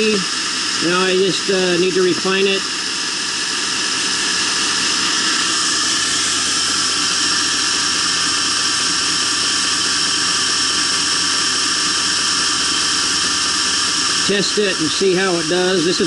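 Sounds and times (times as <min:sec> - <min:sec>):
motor-driven belt humming: 0:00.0 - 0:16.0.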